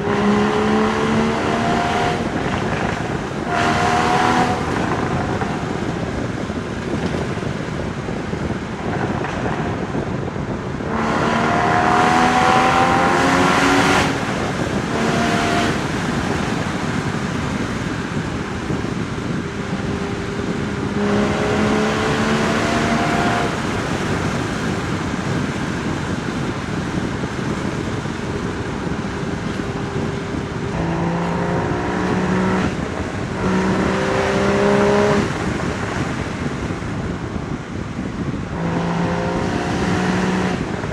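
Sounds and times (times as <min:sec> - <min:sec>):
car exhaust accelerating: 0:00.0 - 0:40.9
gear changes: 0:00.0 - 0:40.9
wind noise: 0:00.0 - 0:40.9.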